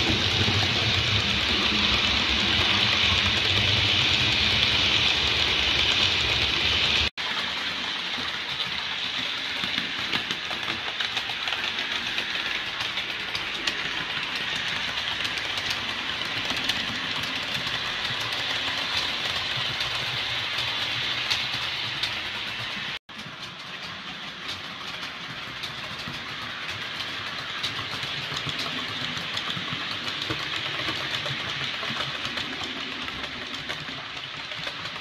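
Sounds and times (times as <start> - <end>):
model train motor and wheel hum: 0.0 - 35.0
small rail clicks: 0.0 - 35.0.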